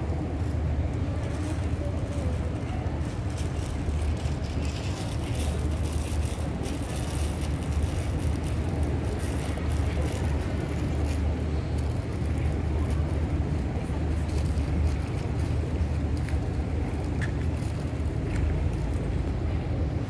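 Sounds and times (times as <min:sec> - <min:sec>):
outdoor noise: 0:00.0 - 0:20.0.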